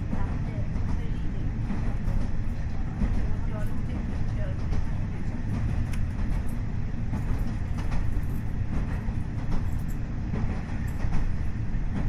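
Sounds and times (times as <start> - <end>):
diesel railcar engine rumble: 0.0 - 12.0
wheels clicking on rails: 0.0 - 12.0.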